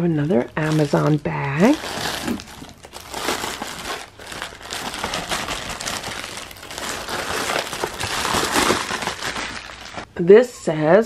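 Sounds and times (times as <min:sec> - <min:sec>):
plastic mailer crinkling: 0:00.2 - 0:10.1.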